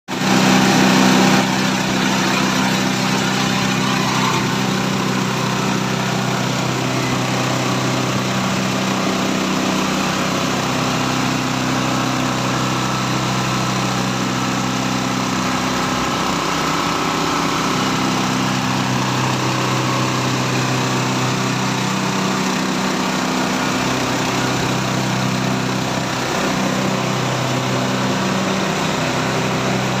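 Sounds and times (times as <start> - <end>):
grass chopper machine running: 0.1 - 30.0.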